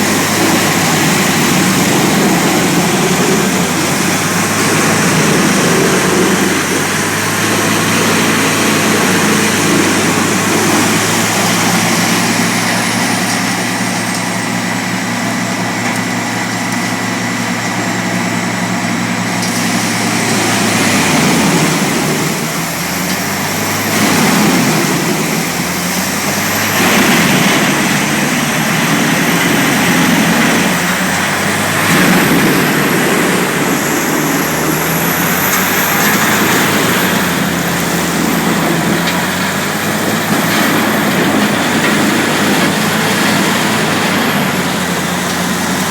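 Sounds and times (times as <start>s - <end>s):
rushing noise: 0.0s - 13.9s, 19.3s - 45.9s
wood chipper engine whining: 0.0s - 45.9s.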